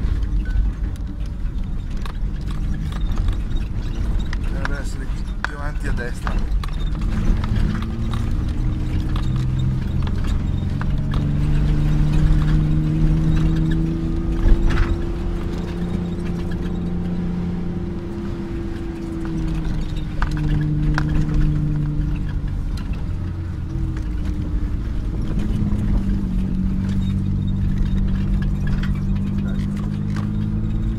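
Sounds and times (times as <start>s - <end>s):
cab rattling and knocking: 0.0s - 30.9s
vehicle engine running: 0.0s - 30.9s.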